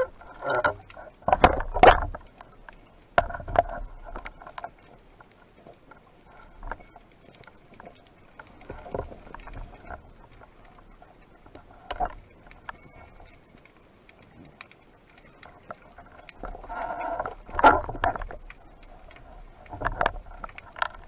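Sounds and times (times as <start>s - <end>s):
water noise: 0.0s - 21.0s.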